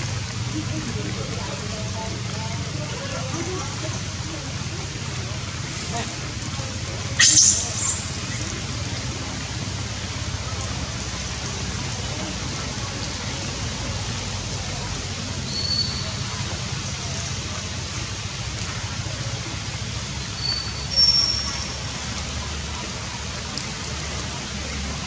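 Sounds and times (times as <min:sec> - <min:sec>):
rain falling on foliage: 0:00.0 - 0:25.0.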